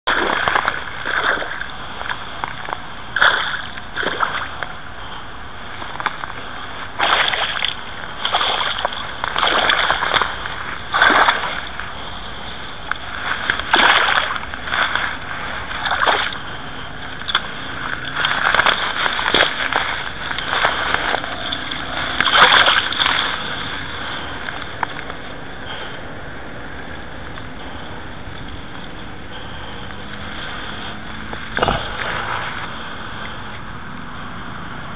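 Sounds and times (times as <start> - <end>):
fish thrashing and splashing: 0.1 - 25.8, 27.5 - 33.6.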